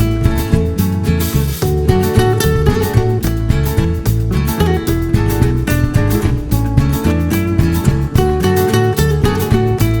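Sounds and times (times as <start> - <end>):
acoustic guitar music with bass: 0.0 - 10.0.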